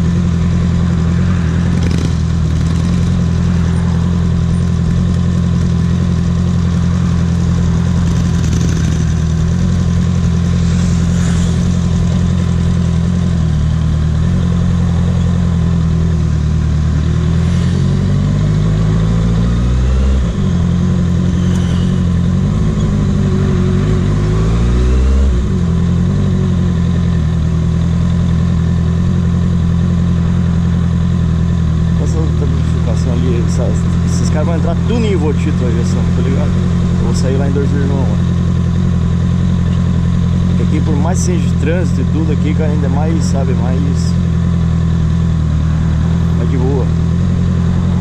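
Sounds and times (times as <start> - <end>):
motorcycle engine at low revs: 0.0 - 48.0.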